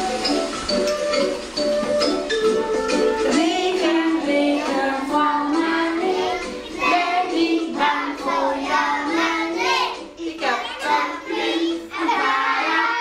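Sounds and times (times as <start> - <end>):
music: 0.0 - 13.0
children singing: 2.4 - 13.0.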